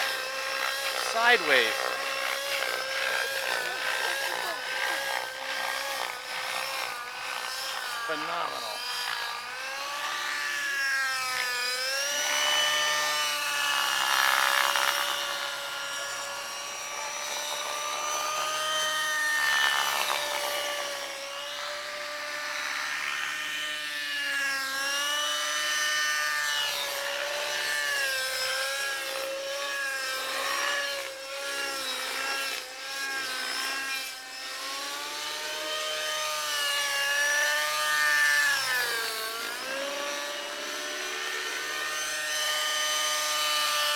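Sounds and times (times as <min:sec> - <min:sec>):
model helicopter motor whine: 0:00.0 - 0:43.9.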